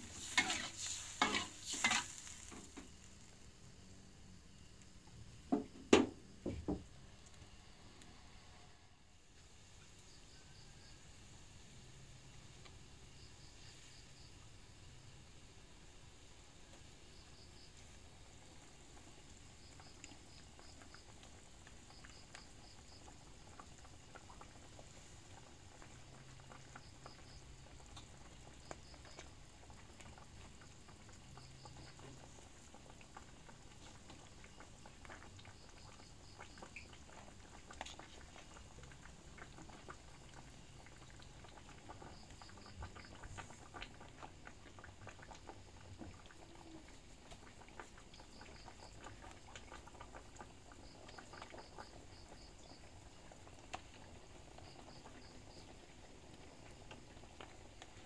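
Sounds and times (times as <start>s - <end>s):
pot of food simmering: 0.0s - 58.0s.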